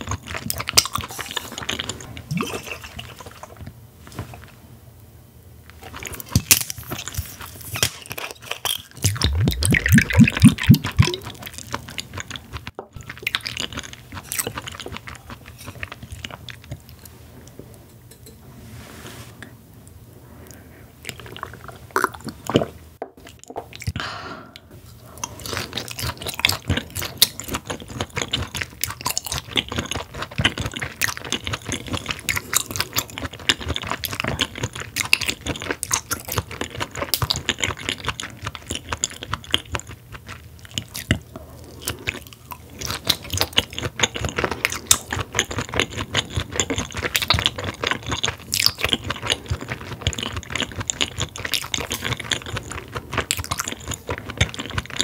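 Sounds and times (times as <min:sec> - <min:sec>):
chewing meat with mouth clicks: 0:00.0 - 0:03.8, 0:05.8 - 0:17.1, 0:25.1 - 0:55.0.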